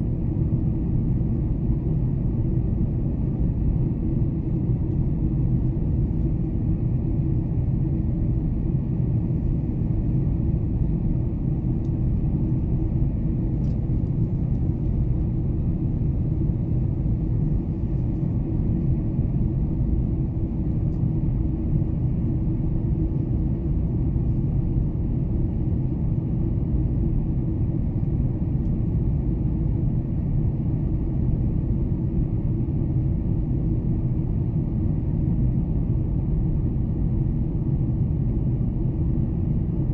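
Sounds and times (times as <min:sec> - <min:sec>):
airplane engines rumbling in cabin: 0:00.0 - 0:39.9.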